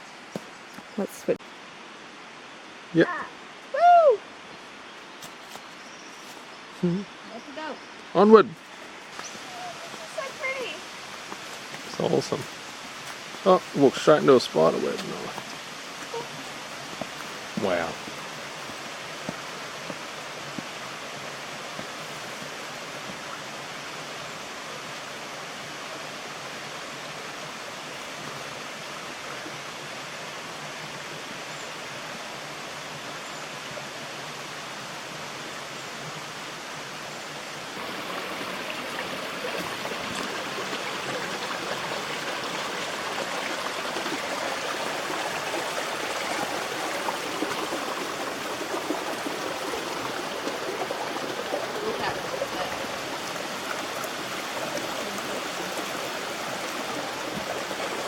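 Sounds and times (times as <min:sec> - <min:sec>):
rush of flowing water: 0:00.0 - 0:58.0.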